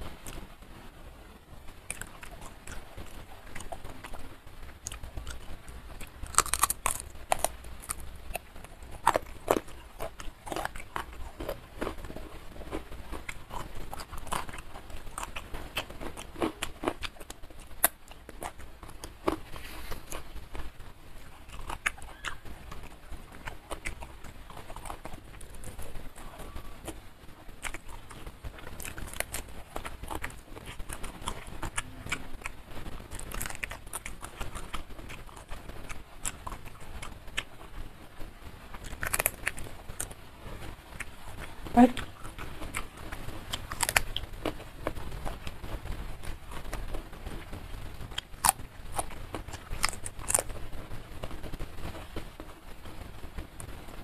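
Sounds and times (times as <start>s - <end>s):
close-miked chewing: 1.3s - 54.0s.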